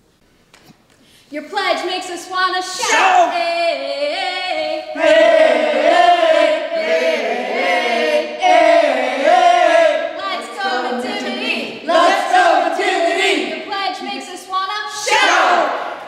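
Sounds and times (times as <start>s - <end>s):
group of voices singing: 2.7s - 16.0s.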